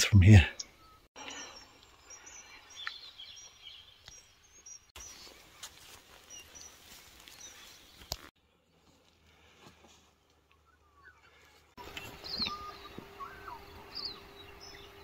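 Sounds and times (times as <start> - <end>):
bird chirps: 0.5 - 8.3, 10.5 - 15.0.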